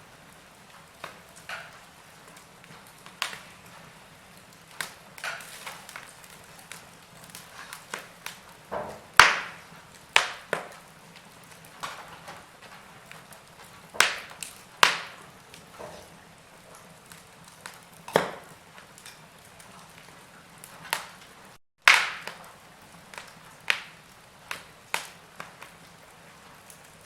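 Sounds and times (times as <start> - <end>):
logs crackling in fireplace: 0.0 - 27.0.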